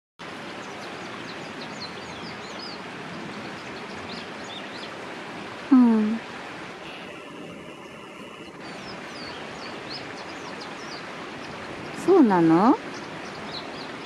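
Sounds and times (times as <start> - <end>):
small birds chirping: 0.4 - 5.0, 6.9 - 14.0.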